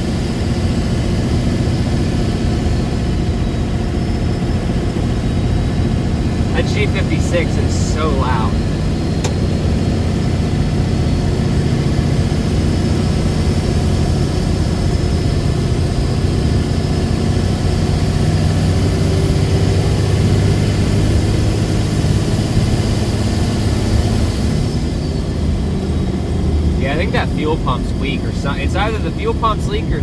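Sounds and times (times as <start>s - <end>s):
diesel pickup engine droning: 0.0s - 30.0s
manual transmission whine: 0.0s - 30.0s.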